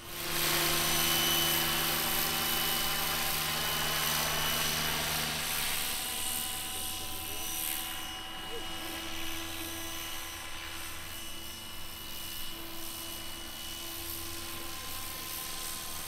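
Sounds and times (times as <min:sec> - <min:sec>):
model helicopter rotor whine: 0:00.0 - 0:16.0.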